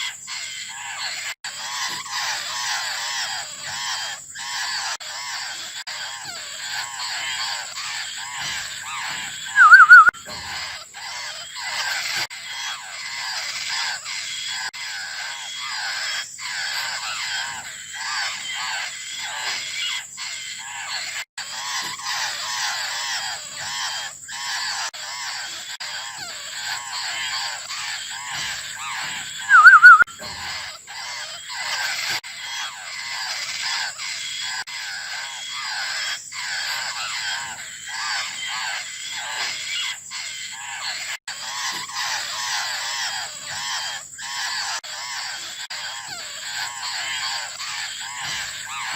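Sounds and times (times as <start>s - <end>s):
young birds begging calls: 0.0s - 48.9s.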